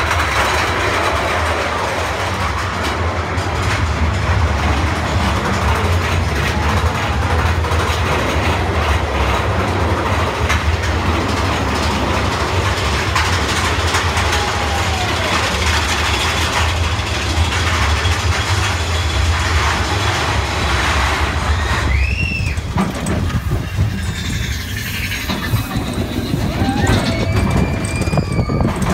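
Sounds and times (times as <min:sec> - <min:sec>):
roller coaster rumbling on track: 0:00.0 - 0:28.9.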